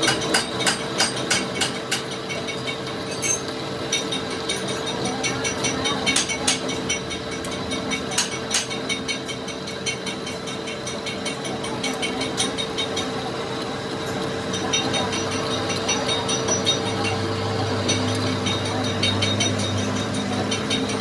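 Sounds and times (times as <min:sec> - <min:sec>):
workshop machine humming: 0:00.0 - 0:21.0.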